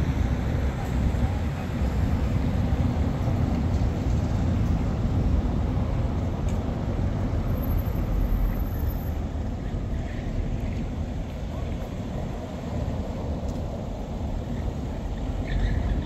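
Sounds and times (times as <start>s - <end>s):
faint street ambience: 0.0s - 16.0s.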